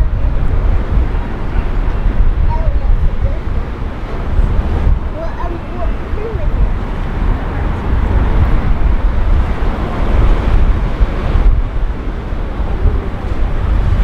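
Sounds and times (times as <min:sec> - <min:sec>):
sea surf breaking: 0:00.0 - 0:14.0
wind buffeting microphone: 0:00.0 - 0:14.0.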